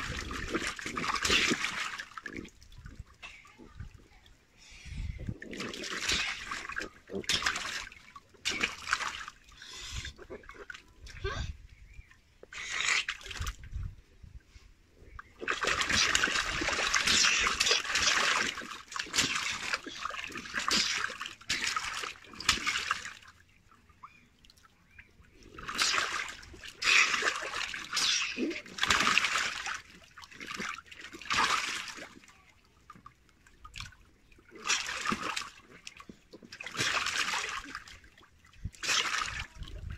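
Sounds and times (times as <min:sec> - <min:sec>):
water splashing in paddling pool: 0:00.0 - 0:04.3, 0:05.2 - 0:11.3, 0:15.2 - 0:39.9.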